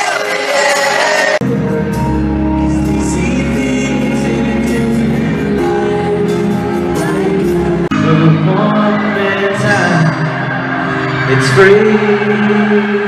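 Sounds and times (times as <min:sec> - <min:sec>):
crowd noise: 0:00.0 - 0:13.0
men singing over live band: 0:00.0 - 0:13.0.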